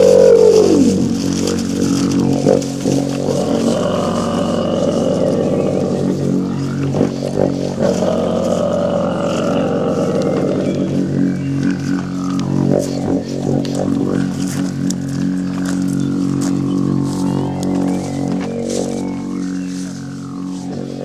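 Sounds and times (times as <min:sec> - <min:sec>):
didgeridoo drone: 0:00.0 - 0:21.0.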